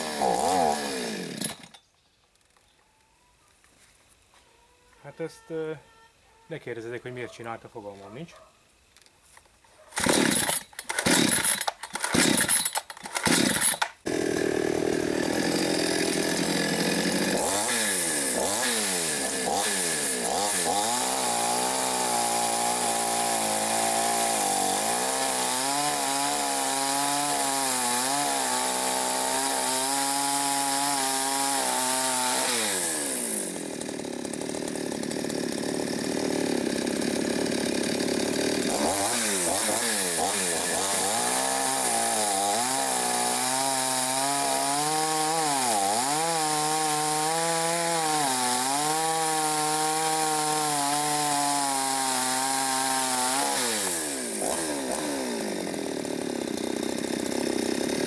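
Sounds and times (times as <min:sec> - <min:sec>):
chainsaw cutting log: 0:00.0 - 0:01.8, 0:09.9 - 0:58.0.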